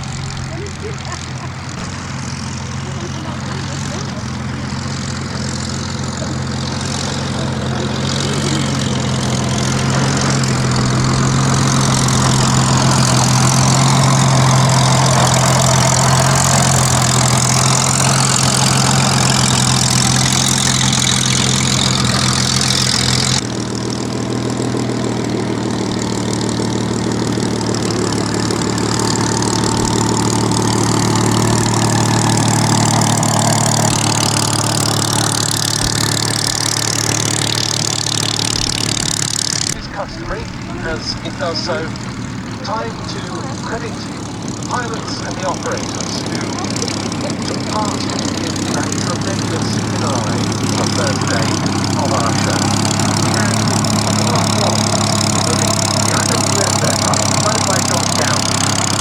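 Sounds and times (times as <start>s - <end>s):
piston aero engines running: 0.0s - 59.0s.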